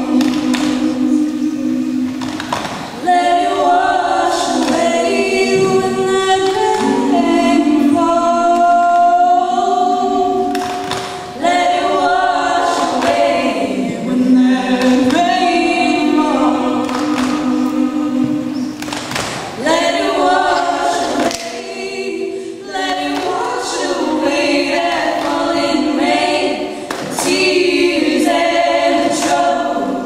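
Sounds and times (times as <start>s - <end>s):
backing singers sustained chords: 0.0s - 30.0s.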